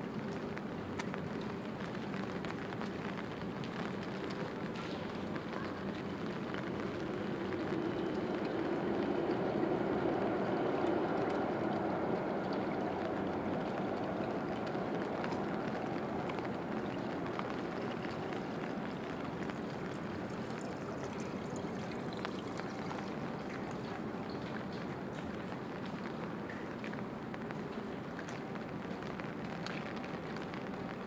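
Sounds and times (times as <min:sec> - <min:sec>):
dripping water ticks: 0:00.0 - 0:31.0
rain on city street: 0:00.0 - 0:31.0.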